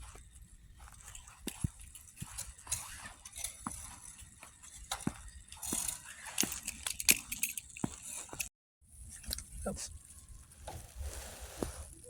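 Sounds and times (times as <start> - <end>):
footsteps crunching in snow: 0.0 - 8.5, 10.4 - 12.0.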